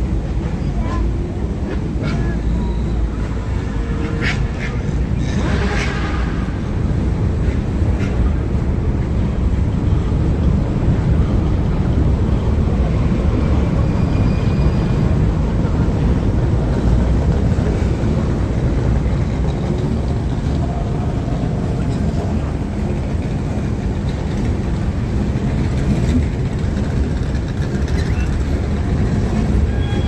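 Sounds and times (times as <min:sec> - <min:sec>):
car engines rumbling: 0:00.0 - 0:30.0.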